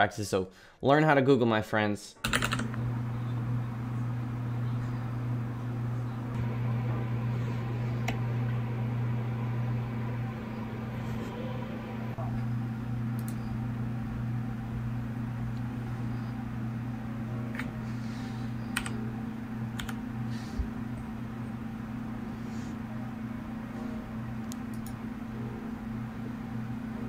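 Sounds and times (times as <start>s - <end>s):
low hum with hiss: 2.2s - 27.0s.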